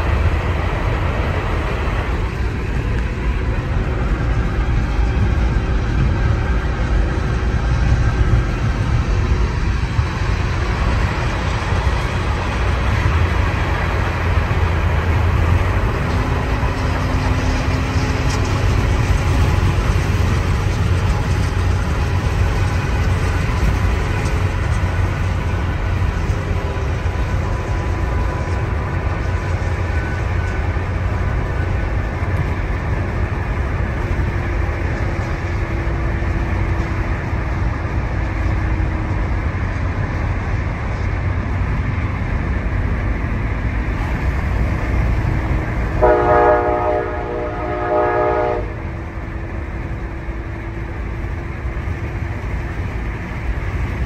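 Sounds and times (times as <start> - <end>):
road and wind noise in car: 0.0 - 54.0.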